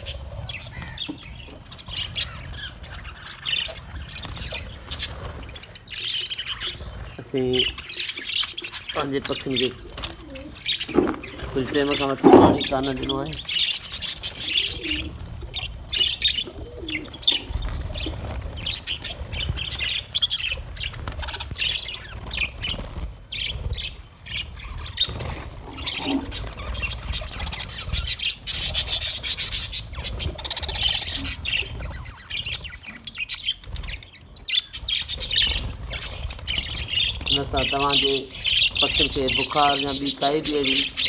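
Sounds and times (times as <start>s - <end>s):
wings flapping: 0.0s - 34.1s, 34.7s - 41.0s
budgerigars chattering and chirping: 0.0s - 41.0s.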